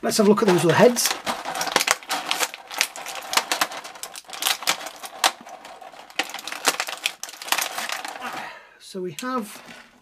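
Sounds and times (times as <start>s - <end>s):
plastic bag crinkling: 0.0s - 8.6s, 9.3s - 10.0s.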